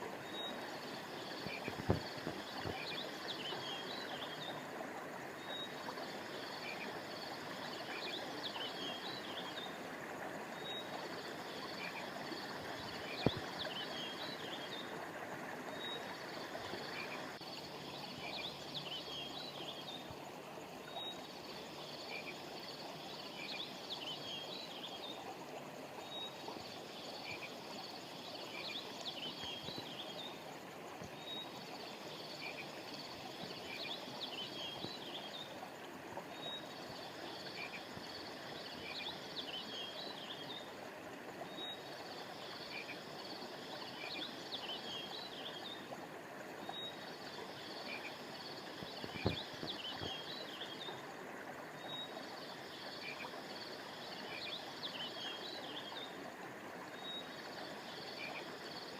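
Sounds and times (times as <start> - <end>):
flowing river water: 0.0 - 58.9.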